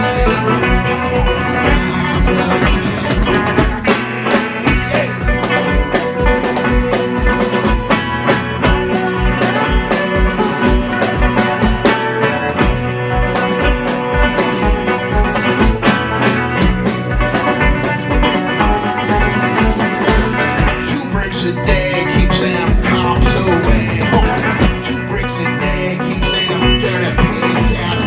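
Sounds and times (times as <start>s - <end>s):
live band music: 0.0s - 28.0s.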